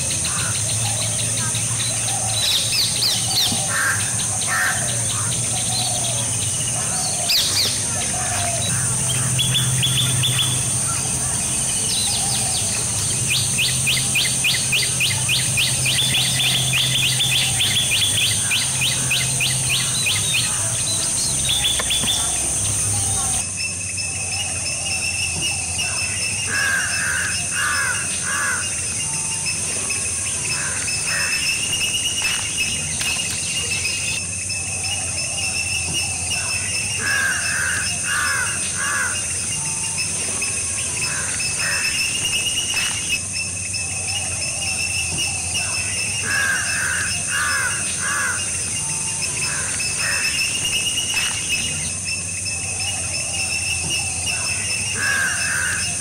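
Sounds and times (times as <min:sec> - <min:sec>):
bird harsh calls: 0:00.0 - 0:56.0
insect chorus buzzing: 0:00.0 - 0:56.0.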